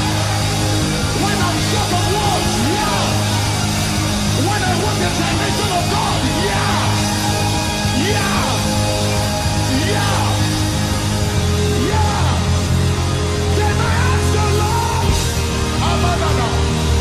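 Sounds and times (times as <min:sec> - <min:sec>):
worship music with sustained chords: 0:00.0 - 0:17.0.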